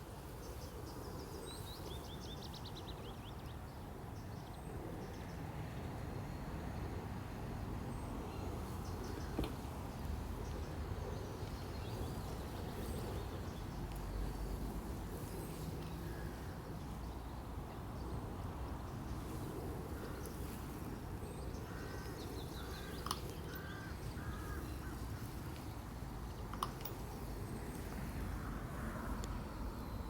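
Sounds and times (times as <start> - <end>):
low background noise: 0.0 - 30.0.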